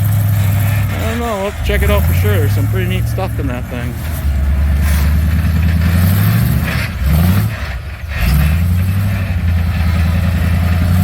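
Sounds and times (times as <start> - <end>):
buggy engine revving under load: 0.0 - 11.0.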